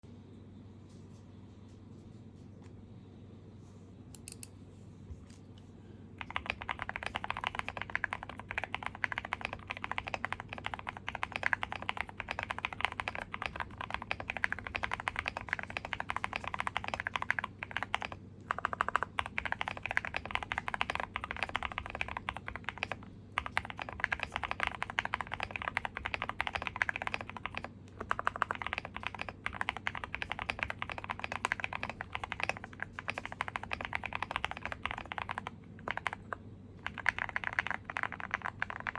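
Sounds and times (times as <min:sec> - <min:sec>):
fast typing on mechanical keyboard: 0:06.2 - 0:38.9.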